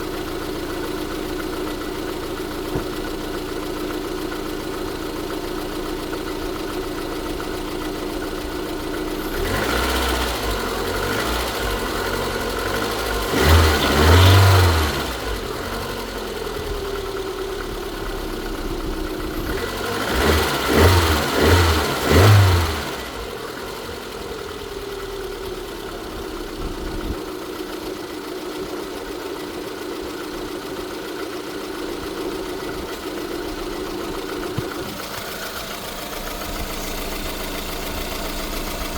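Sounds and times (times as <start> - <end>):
car engine idling and revving: 0.0 - 38.9
extraneous engine noise: 5.7 - 38.9.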